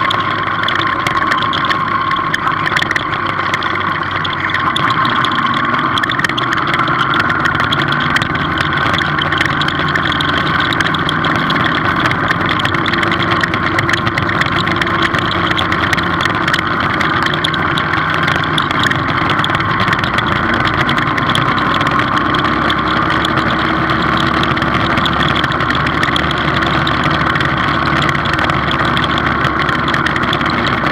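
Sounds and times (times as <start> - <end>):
motorcycle engine running: 0.0 - 30.9
wind and road noise: 0.0 - 30.9.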